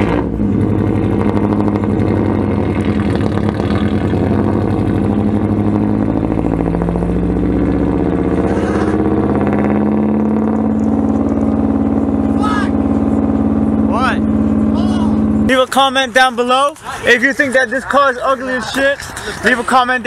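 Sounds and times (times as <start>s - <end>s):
vehicle engine running steadily: 0.0s - 19.8s.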